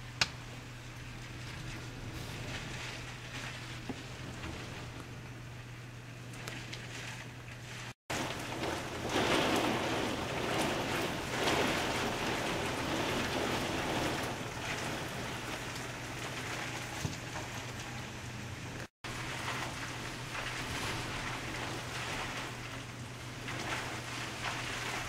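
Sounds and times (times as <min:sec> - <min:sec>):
heavy rain in strong wind: 0:00.0 - 0:25.0.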